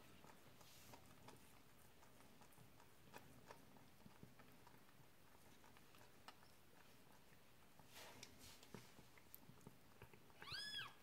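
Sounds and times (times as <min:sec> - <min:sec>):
cat licking kitten: 0:00.0 - 0:11.0.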